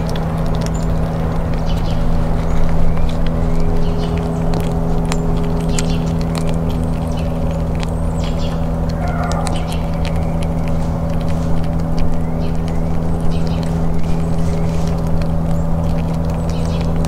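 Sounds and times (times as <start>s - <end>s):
low machine hum: 0.0s - 17.0s
squirrel gnawing a peanut: 0.0s - 17.0s.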